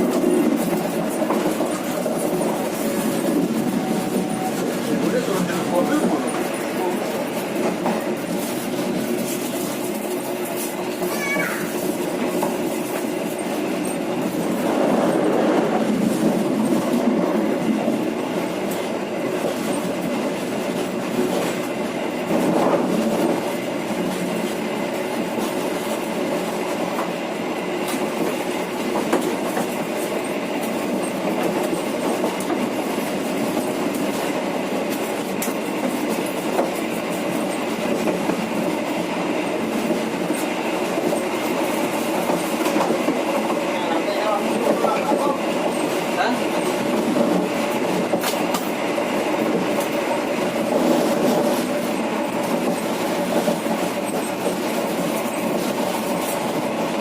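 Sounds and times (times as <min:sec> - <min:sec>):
train rumbling along track: 0:00.0 - 0:57.0
wheels clicking on rails: 0:00.0 - 0:57.0.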